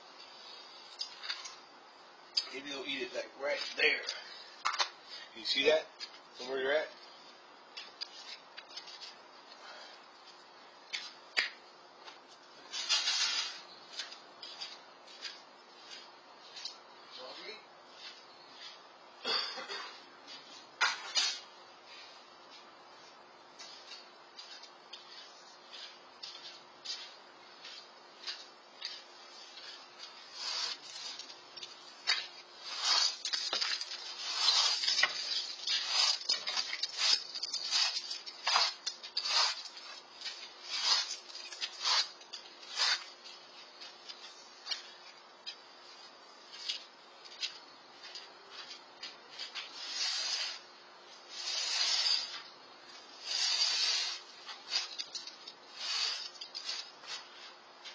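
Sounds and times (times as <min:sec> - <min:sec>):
broom sweeping concrete: 0:00.1 - 0:01.7, 0:06.4 - 0:09.2, 0:12.1 - 0:18.9, 0:20.2 - 0:45.2, 0:45.8 - 0:57.9.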